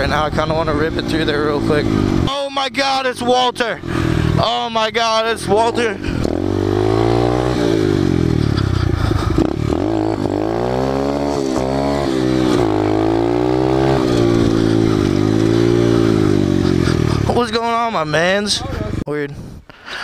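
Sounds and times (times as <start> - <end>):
motorbike engine revving: 0.0 - 17.6.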